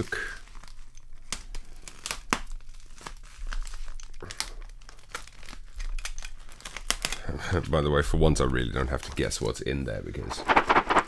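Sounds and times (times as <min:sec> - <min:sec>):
plastic bag crinkling and tearing: 0:00.0 - 0:09.4.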